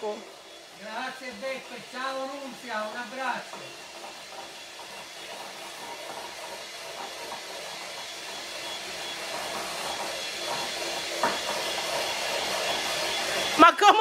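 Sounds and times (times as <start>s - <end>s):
electric hand mixer whipping cream: 0.0s - 14.0s.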